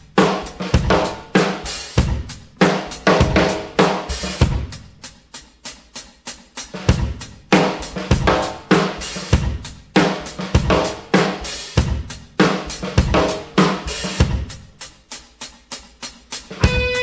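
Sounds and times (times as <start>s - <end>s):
drum-kit beat: 0.0s - 17.0s.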